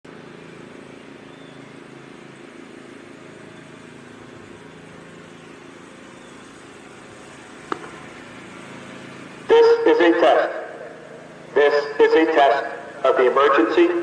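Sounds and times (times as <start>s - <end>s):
faint outdoor background noise: 0.0s - 14.0s
steady low hum: 0.1s - 14.0s.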